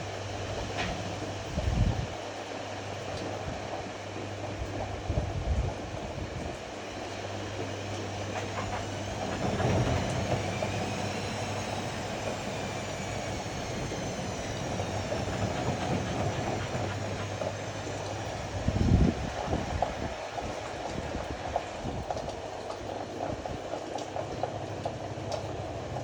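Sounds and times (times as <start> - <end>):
faint motor whine: 0.0 - 26.0
washer-dryer rumble and hum: 0.0 - 26.0.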